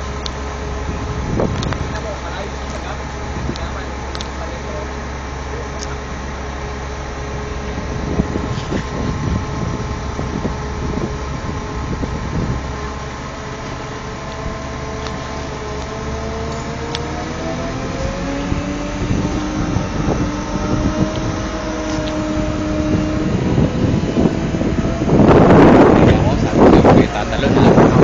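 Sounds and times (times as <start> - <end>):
crane engine running with whine: 0.0 - 28.0.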